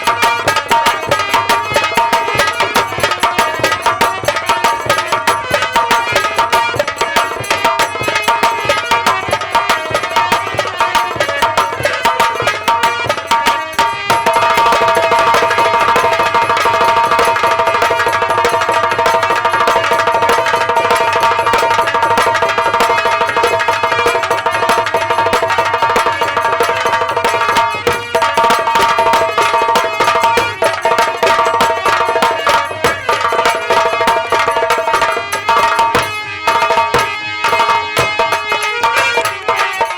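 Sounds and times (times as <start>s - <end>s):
fast dense drumming: 0.0s - 39.9s
held melody line: 0.0s - 39.9s.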